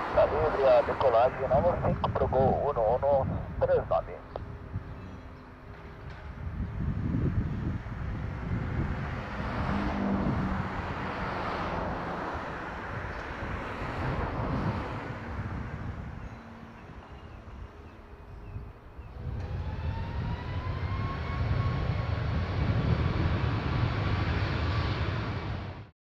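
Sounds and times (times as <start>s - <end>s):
jet engines rumbling: 0.0s - 25.9s
rising engine whine: 0.0s - 25.9s.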